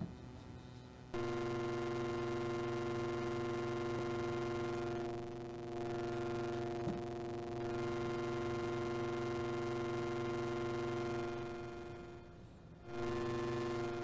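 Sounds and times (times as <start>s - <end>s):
synthesizer droning tone: 1.1s - 14.0s.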